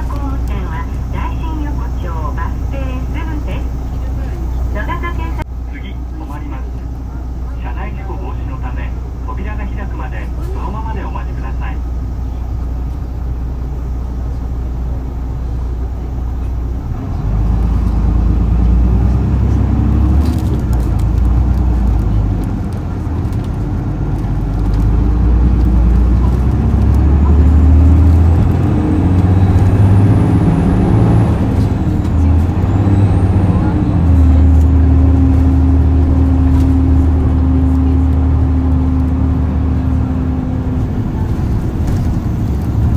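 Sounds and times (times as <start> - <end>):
bus diesel engine accelerating: 0.0 - 42.9.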